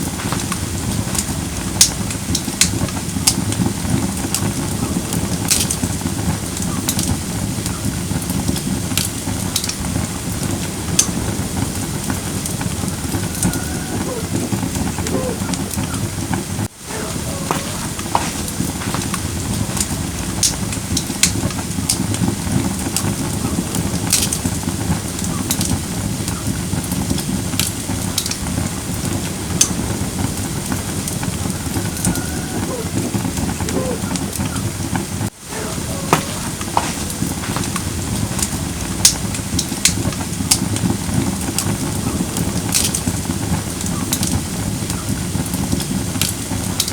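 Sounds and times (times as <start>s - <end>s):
fire crackling and popping: 0.0s - 46.9s
flames rustling: 0.0s - 46.9s.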